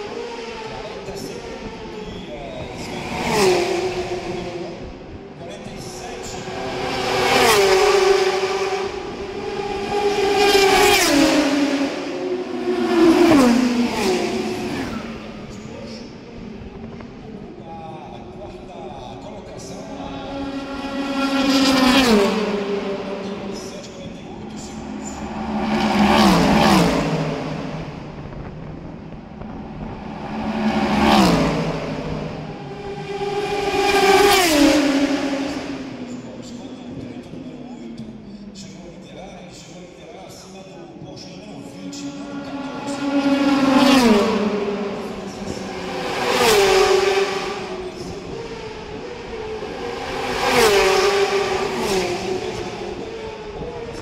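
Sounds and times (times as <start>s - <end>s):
race cars passing at full speed: 0.0s - 54.0s.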